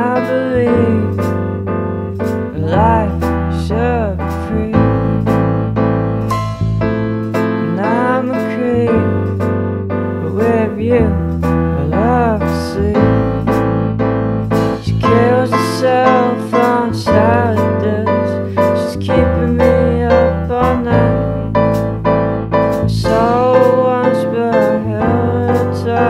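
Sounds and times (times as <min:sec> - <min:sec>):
deep held bass: 0:00.0 - 0:26.0
piano chords: 0:00.0 - 0:26.0.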